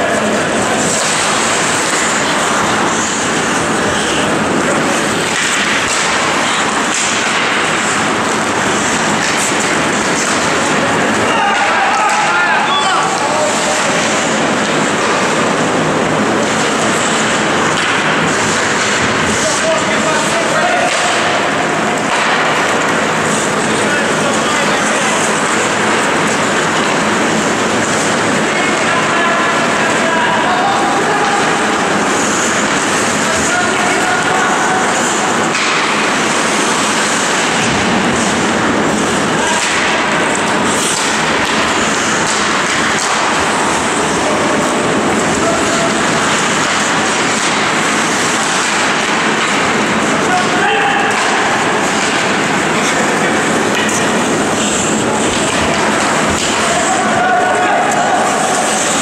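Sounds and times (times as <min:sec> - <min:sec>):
ice hockey arena noise: 0:00.0 - 0:59.0.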